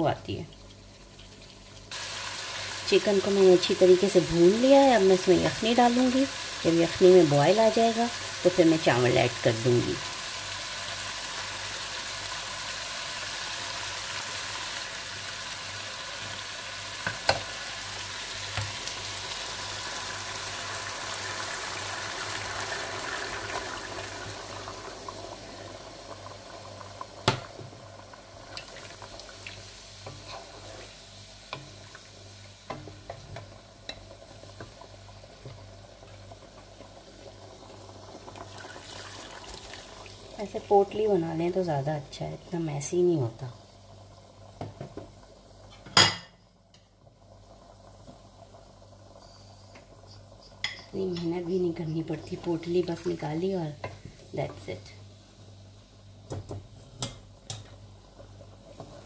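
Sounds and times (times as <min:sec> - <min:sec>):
chicken sizzling in a pot: 0:00.0 - 0:59.0.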